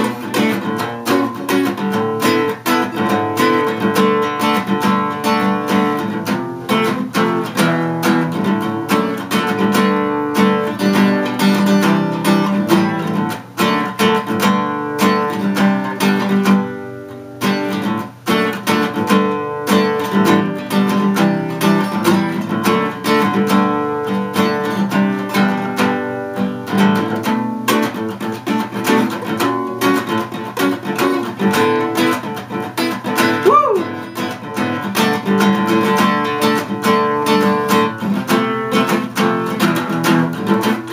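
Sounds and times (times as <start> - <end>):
acoustic guitar strummed and picked: 0.0 - 40.9.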